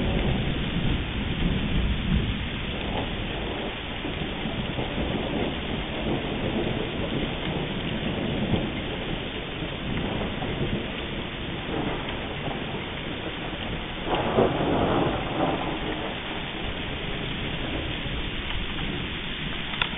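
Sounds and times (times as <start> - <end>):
low rolling thunder: 0.0 - 19.9
steady rain: 0.0 - 19.9.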